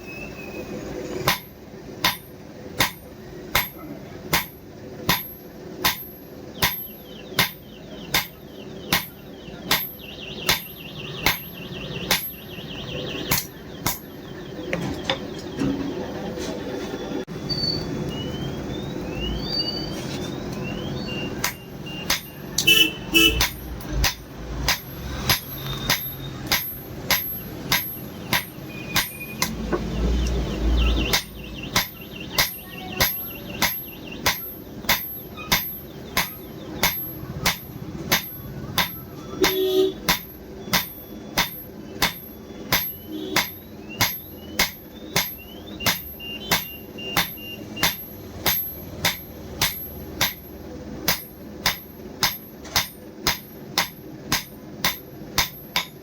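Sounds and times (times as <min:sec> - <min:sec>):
hammer striking steel on anvil: 0:01.2 - 0:12.5, 0:13.2 - 0:14.2, 0:21.4 - 0:29.9, 0:31.0 - 0:56.0.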